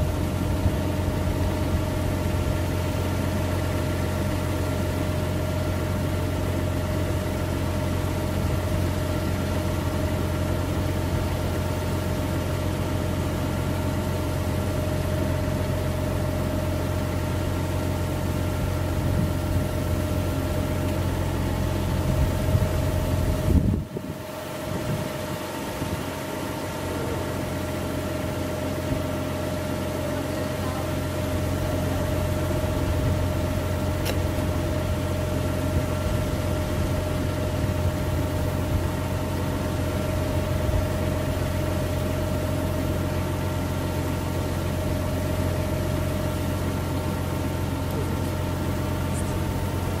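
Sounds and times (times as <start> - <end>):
tractor engine droning: 0.0 - 50.0.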